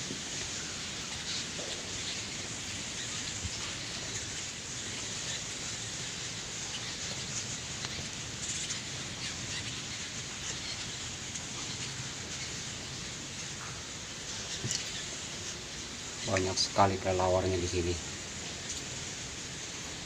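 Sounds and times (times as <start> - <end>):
steady hiss: 0.0 - 20.0
bats squeaking: 0.1 - 19.2.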